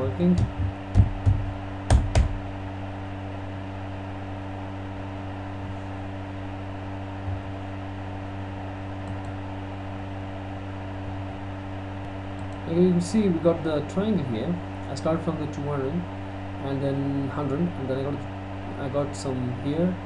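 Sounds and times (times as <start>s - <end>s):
low hum with hiss: 0.0s - 20.0s.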